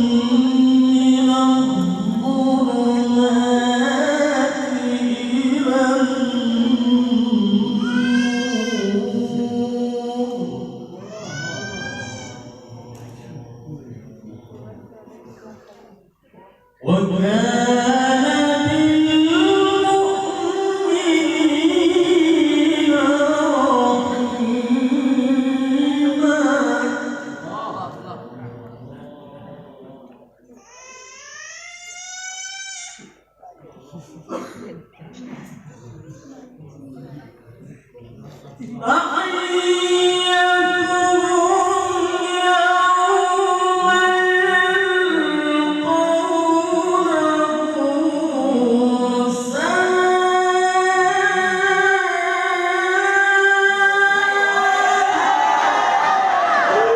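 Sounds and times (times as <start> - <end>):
man reciting melodically: 0.0 - 30.3, 35.0 - 55.1.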